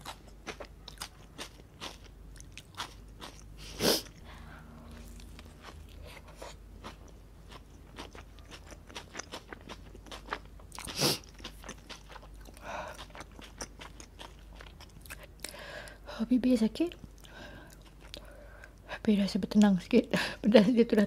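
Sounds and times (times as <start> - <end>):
chewing crunchy food: 0.0 - 4.3, 4.9 - 16.0, 16.9 - 18.9.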